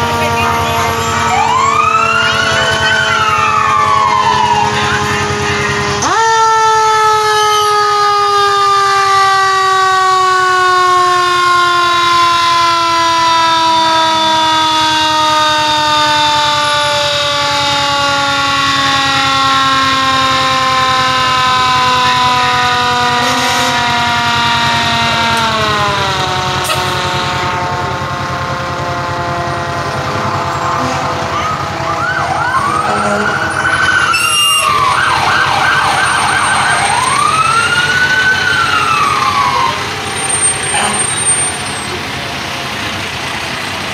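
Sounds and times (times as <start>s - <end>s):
mechanical siren winding down: 0.0s - 42.0s
fire engine sirens wailing: 0.0s - 43.9s
truck engines running: 0.0s - 43.9s.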